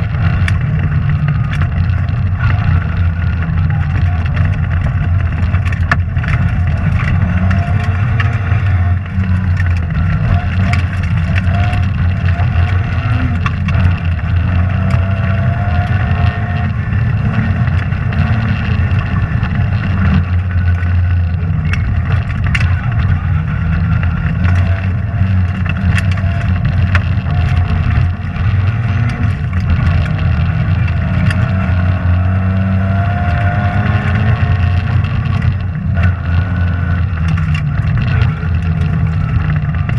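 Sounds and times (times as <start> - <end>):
rally car engine revving: 0.0 - 39.9
sharp clicks and knocks: 0.0 - 39.9.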